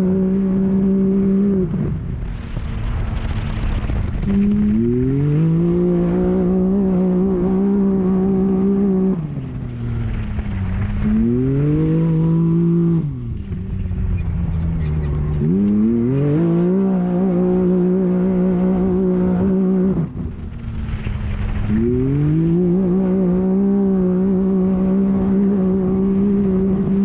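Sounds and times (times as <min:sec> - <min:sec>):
race vehicle engine at full throttle: 0:00.0 - 0:27.0
wind and driving noise: 0:00.0 - 0:27.0.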